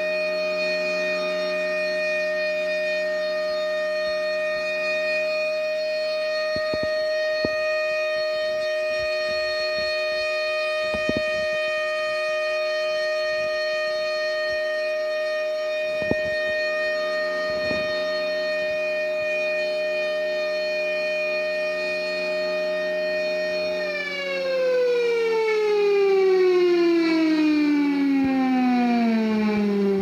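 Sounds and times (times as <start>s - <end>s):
warning siren steady tone: 0.0s - 30.0s.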